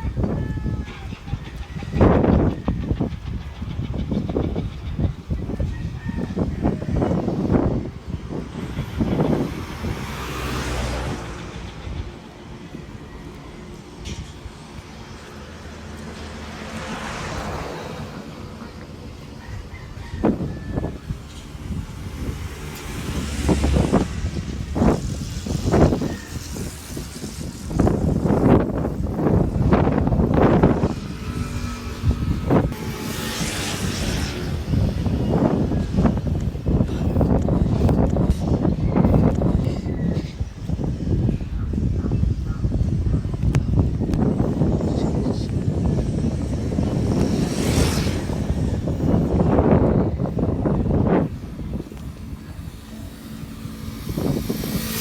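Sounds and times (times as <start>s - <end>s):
low rumbling gusts: 0.0s - 55.0s
low steady traffic rumble: 0.0s - 55.0s
wind buffeting microphone: 0.0s - 55.0s
passing vehicle hiss: 5.2s - 55.0s.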